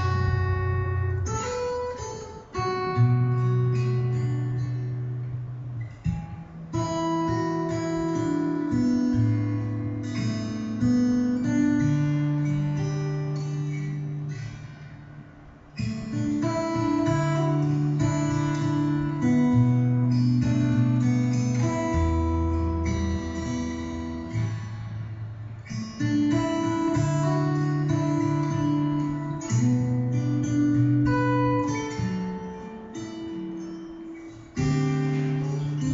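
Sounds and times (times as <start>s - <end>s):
acoustic guitar music: 0.0s - 35.9s.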